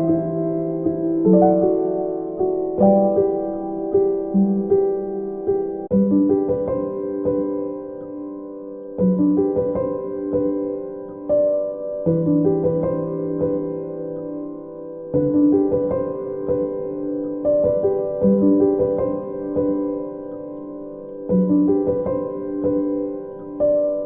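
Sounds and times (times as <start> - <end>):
soft solo piano arpeggios: 0.0 - 24.0.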